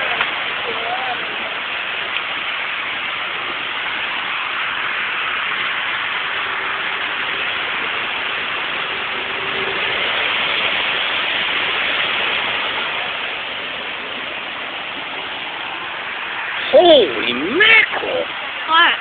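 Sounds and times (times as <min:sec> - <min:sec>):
cars swishing through floodwater: 0:00.0 - 0:19.0
heavy rain falling: 0:00.0 - 0:19.0.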